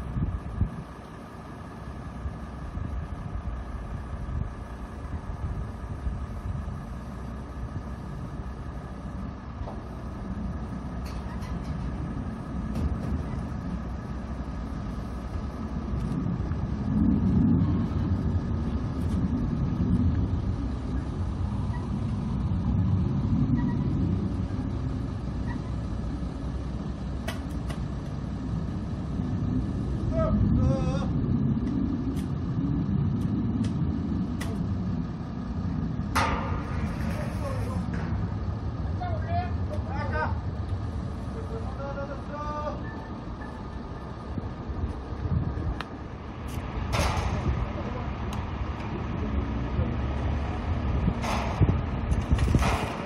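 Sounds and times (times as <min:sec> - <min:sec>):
crane diesel engine rumbling: 0:00.0 - 0:53.0.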